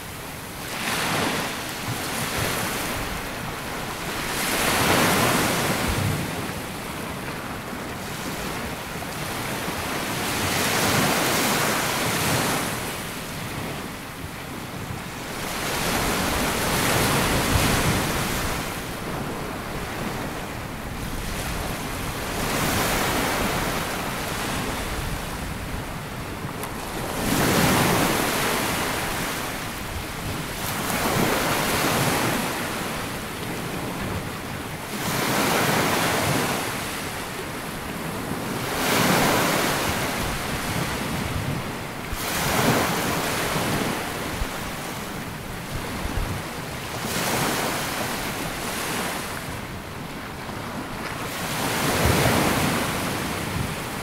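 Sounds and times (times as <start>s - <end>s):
waves washing up a beach: 0.0s - 54.0s
wind on microphone: 0.0s - 54.0s.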